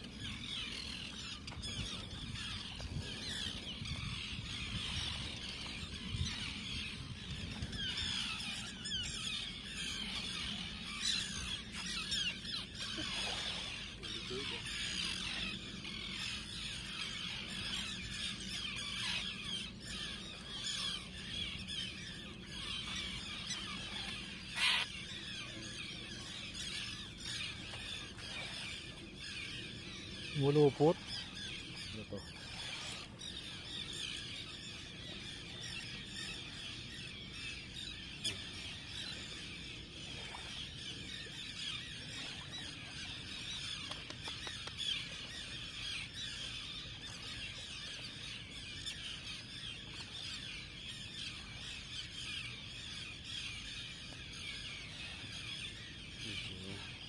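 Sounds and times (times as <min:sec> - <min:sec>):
seabirds squealing cries: 0:00.0 - 0:57.0.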